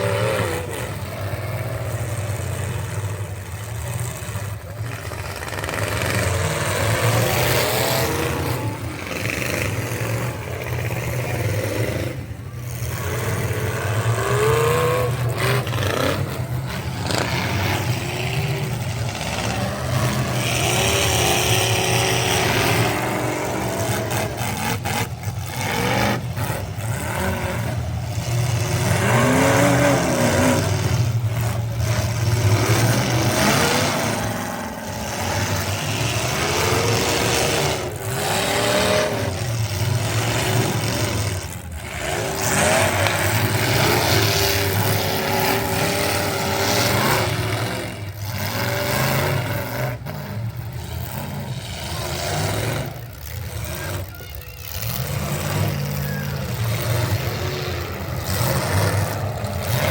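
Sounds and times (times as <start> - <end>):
racing truck engines revving: 0.0 - 59.9.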